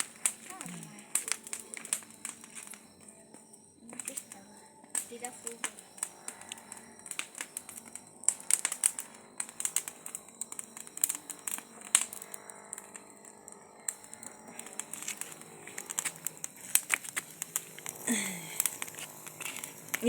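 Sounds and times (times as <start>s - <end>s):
wood bonfire crackling: 0.0s - 20.0s.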